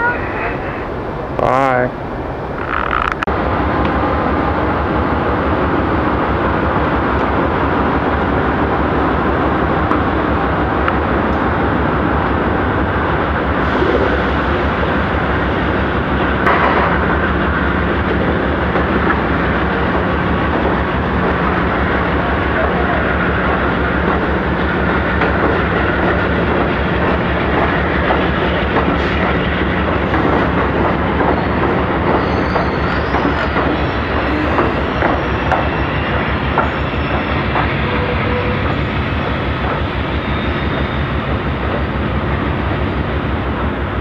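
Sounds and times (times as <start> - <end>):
train rumbling on tracks: 0.0 - 44.0.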